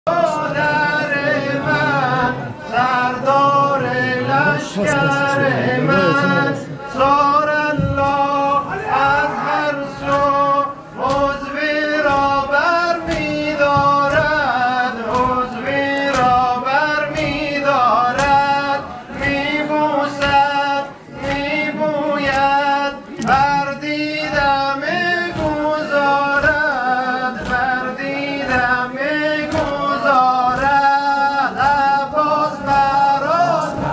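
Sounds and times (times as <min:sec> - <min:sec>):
crowd chest-beating in time: 0:00.1 - 0:33.9
man chanting a lament: 0:00.1 - 0:33.9.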